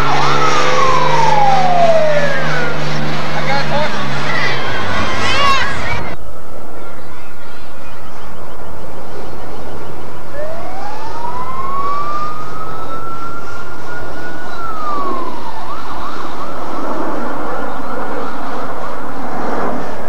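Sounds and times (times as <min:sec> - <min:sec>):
siren wailing: 0:00.0 - 0:06.2, 0:09.4 - 0:20.0.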